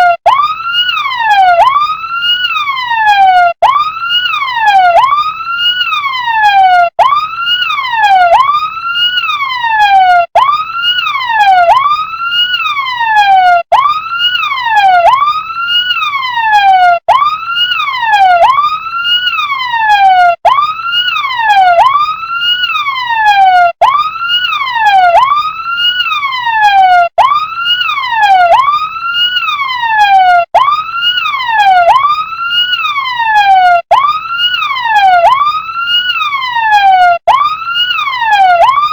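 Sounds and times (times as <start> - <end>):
toy fire truck electronic siren: 0.0 - 38.9.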